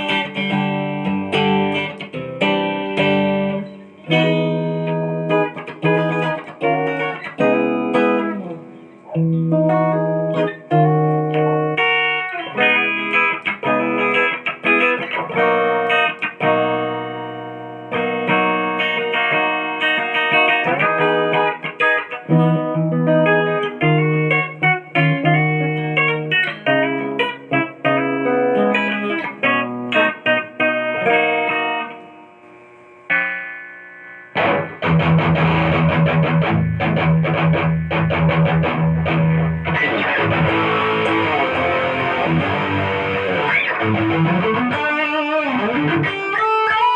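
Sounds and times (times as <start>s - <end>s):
clean electric guitar: 0.0s - 46.9s
distorted electric guitar: 0.0s - 46.9s.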